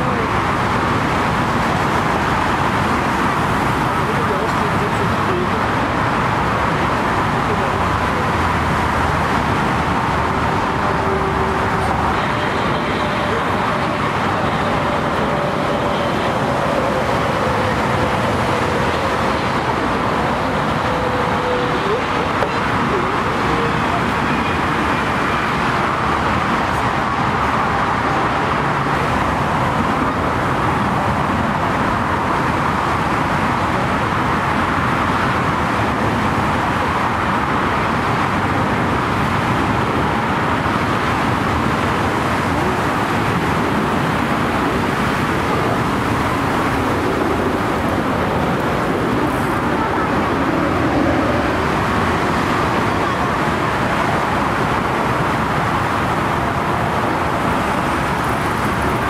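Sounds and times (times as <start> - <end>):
jet aircraft roar: 0.0 - 59.0
traffic: 0.0 - 59.0.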